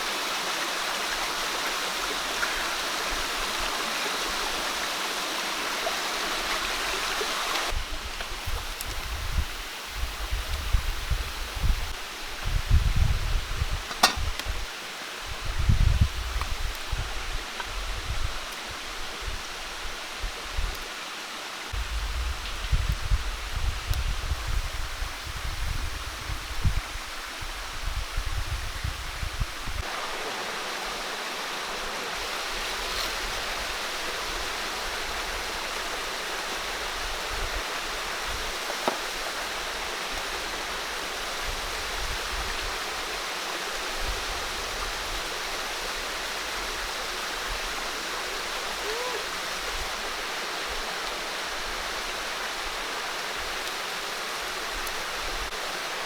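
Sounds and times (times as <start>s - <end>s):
running water: 0.0s - 21.8s, 29.3s - 56.0s.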